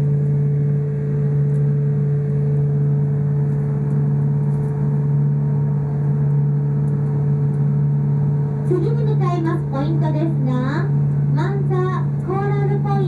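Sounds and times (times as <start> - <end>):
boat engine deep hum: 0.0 - 13.0.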